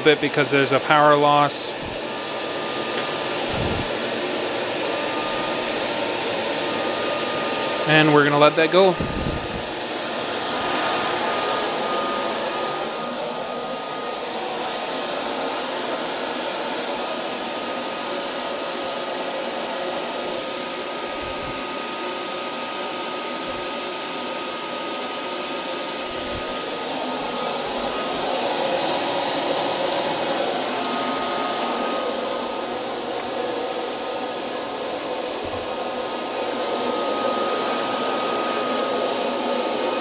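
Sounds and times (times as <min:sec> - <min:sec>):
coffee roaster blower rushing air: 0:00.0 - 0:40.0.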